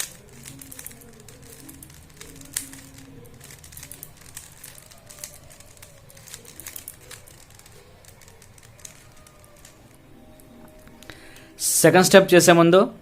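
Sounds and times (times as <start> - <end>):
plastic puzzle cube clicking: 0.0 - 10.8.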